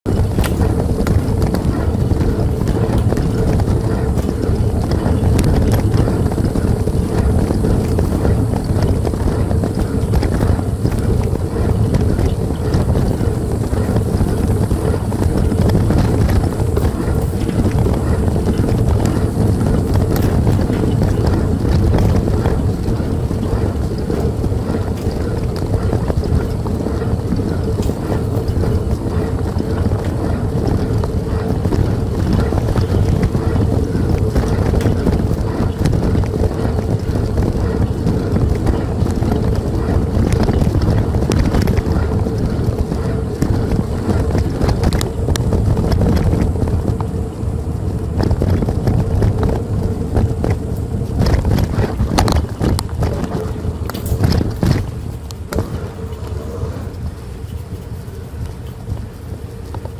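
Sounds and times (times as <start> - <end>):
steady machine hum: 0.0 - 59.9
wind noise on microphone: 0.0 - 59.9.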